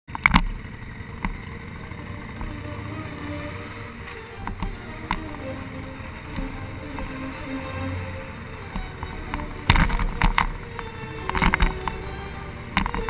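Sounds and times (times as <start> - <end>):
motorcycle engine rumble: 0.1 - 13.0
road and wind noise: 0.1 - 13.0.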